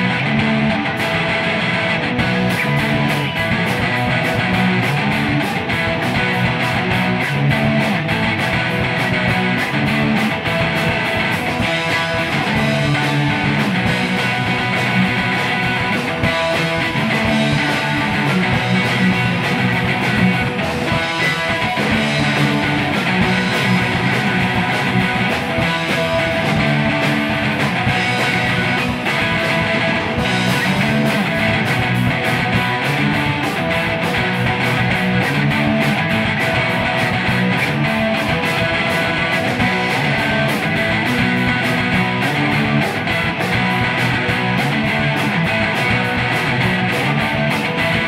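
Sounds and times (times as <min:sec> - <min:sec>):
guitar rock music: 0:00.0 - 0:48.0.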